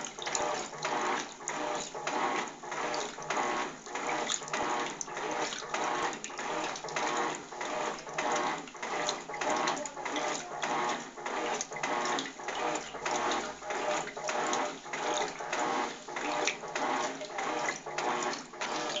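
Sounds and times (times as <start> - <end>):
faint motor hum: 0.0 - 19.0
water and clothes sloshing: 0.0 - 19.0.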